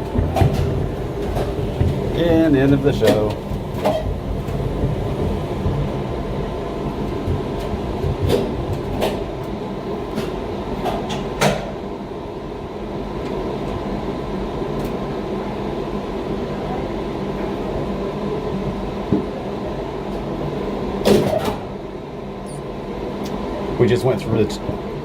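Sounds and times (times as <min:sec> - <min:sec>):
tram capsule rumbling on track: 0:00.0 - 0:25.0.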